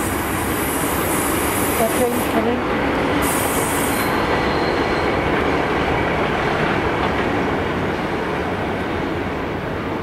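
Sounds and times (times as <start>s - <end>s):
train diesel engine rumble: 0.0s - 10.0s
train wheels on rails: 0.0s - 10.0s.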